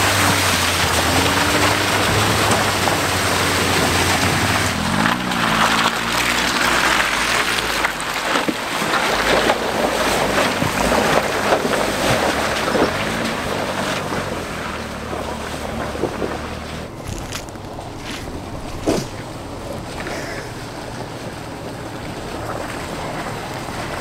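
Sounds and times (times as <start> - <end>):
splashing through mud and water: 0.0 - 24.0
vehicle engine revving: 0.0 - 24.0.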